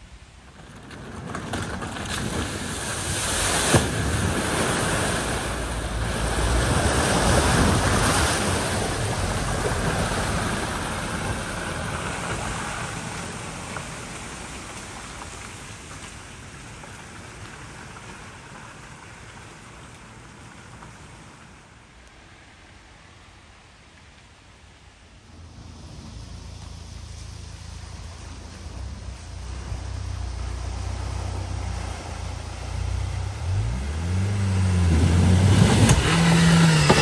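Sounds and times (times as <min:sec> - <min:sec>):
car splashing through water: 0:00.1 - 0:37.0.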